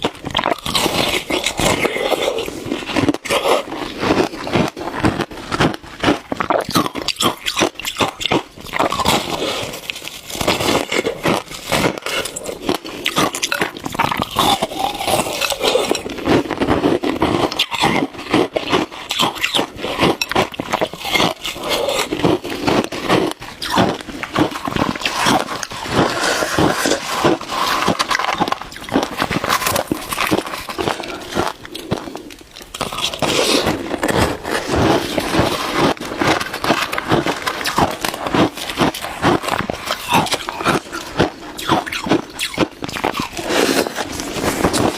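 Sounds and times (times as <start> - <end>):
chewing shaved ice: 0.0 - 44.9.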